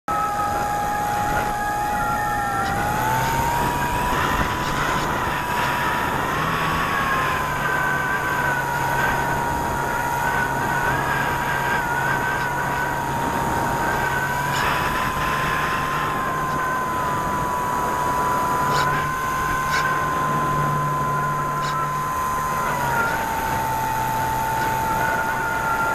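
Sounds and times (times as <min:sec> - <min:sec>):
electric motor and propeller whine: 0:00.0 - 0:25.9
rushing wind noise: 0:00.1 - 0:25.9.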